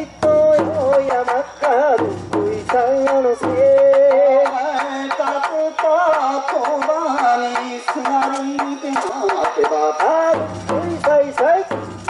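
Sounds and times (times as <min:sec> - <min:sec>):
person singing through a microphone: 0:00.0 - 0:11.9
barrel drum beaten with sticks: 0:00.0 - 0:12.0.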